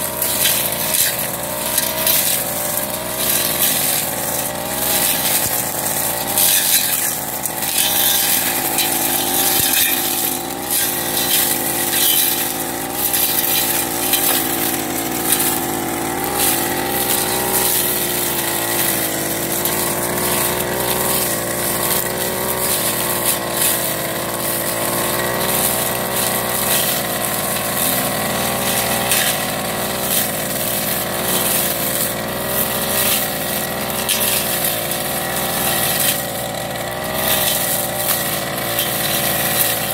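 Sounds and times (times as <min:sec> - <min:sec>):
brush cutter engine running: 0:00.0 - 0:39.9
cutting head crackling on stalks: 0:00.0 - 0:39.9.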